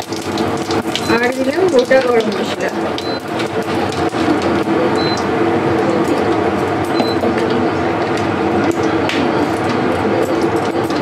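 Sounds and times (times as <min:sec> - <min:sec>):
spices sizzling in hot oil: 0:00.0 - 0:11.0
steady hum: 0:00.0 - 0:11.0.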